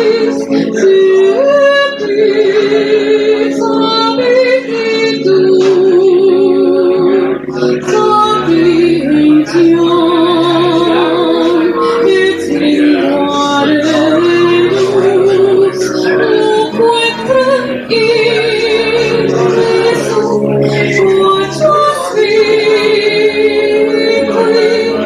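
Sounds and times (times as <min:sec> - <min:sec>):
woman singing into a microphone: 0:00.0 - 0:25.0.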